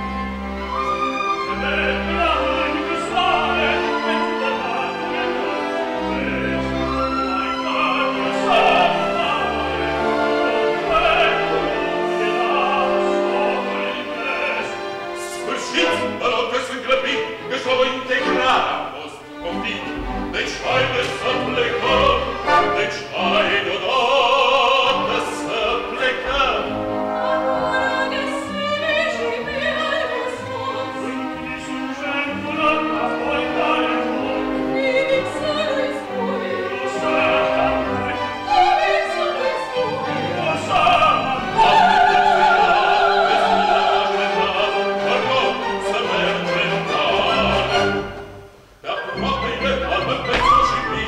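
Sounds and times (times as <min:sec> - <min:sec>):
operatic singing: 0:00.0 - 0:51.0
orchestra playing: 0:00.0 - 0:51.0.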